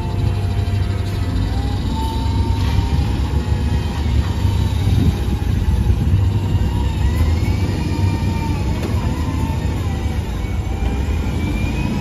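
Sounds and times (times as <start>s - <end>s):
heavy diesel engines rumbling: 0.0s - 12.0s.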